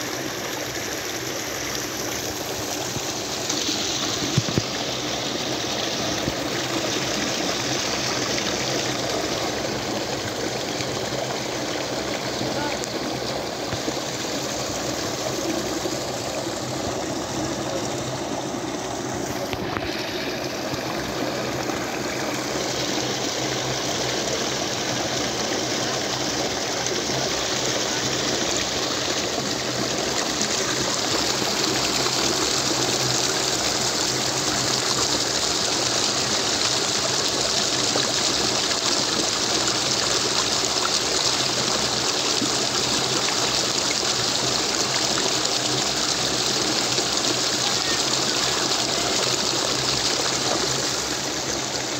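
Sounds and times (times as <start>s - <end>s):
water rushing over spillway: 0.0s - 51.9s.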